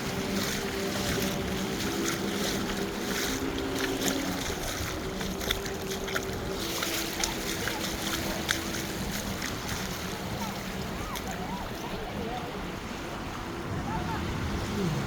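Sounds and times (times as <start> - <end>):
boat engine droning: 0.0 - 15.0
surf washing: 0.0 - 15.0
wind on microphone: 0.0 - 15.0.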